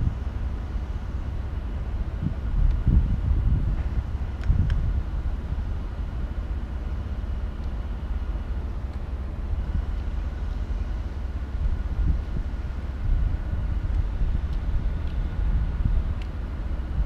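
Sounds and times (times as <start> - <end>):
faint steady hum: 0.0 - 17.0
low outdoor rumble: 0.0 - 17.0.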